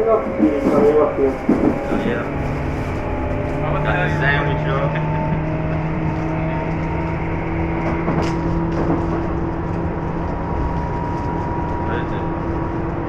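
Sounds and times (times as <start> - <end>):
constant tonal hum: 0.0 - 13.0
train running rumble: 0.0 - 13.0.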